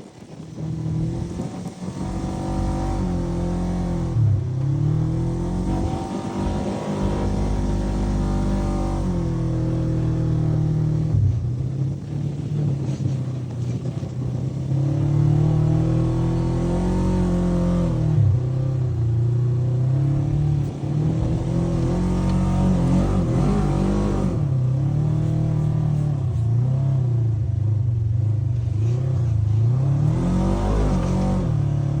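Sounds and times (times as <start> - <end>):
engine revving: 0.3 - 32.0.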